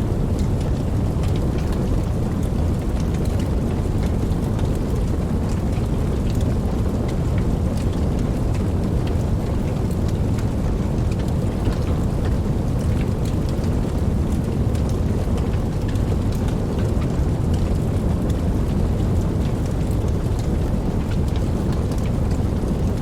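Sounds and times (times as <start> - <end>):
raindrops ticking: 0.0 - 23.0
steady rain: 0.0 - 23.0.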